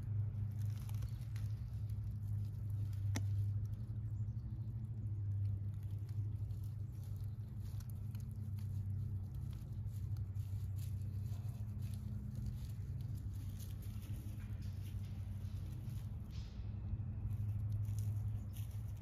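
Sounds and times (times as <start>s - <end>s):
dry leaves and twigs crackling: 0.0s - 19.0s
steady low hum: 0.0s - 19.0s.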